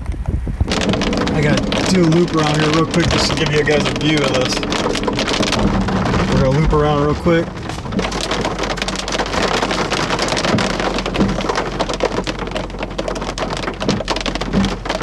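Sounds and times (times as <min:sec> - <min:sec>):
rain pelting car windshield and roof: 0:00.6 - 0:15.0.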